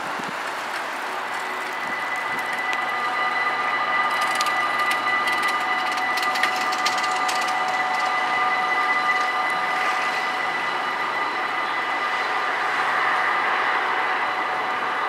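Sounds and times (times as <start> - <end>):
level crossing warning bells: 0.5 - 15.0.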